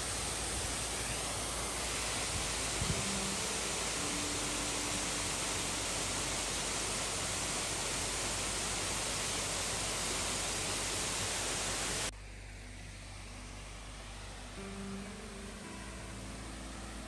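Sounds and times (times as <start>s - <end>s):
waterfall rushing into pool: 0.0s - 12.1s, 14.0s - 17.0s.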